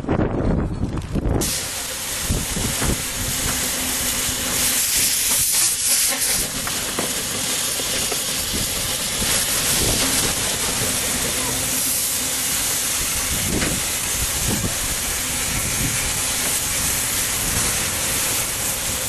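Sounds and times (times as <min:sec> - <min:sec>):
steam locomotive hissing steam: 0:01.4 - 0:19.0.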